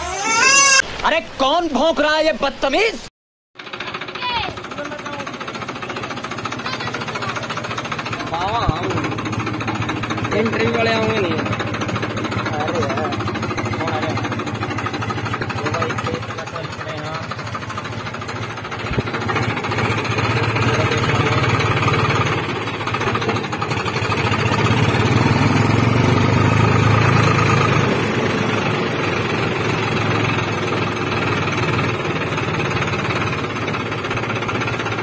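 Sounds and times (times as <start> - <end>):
tractor diesel engine running: 3.6 - 35.0.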